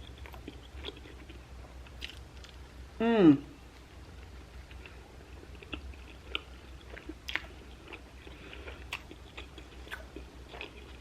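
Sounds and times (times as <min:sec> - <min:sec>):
chewing food: 0:00.0 - 0:02.6, 0:03.8 - 0:11.0.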